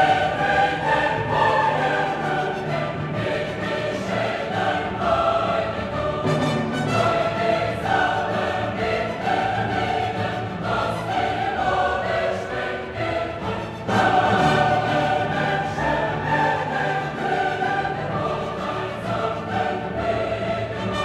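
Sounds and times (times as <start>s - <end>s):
choir singing: 0.0s - 21.0s
orchestral accompaniment: 0.0s - 21.0s.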